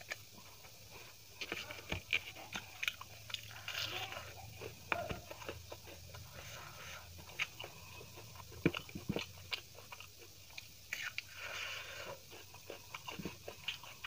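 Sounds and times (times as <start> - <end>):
chewing: 0.0 - 14.0
fingers squishing rice: 0.0 - 14.0.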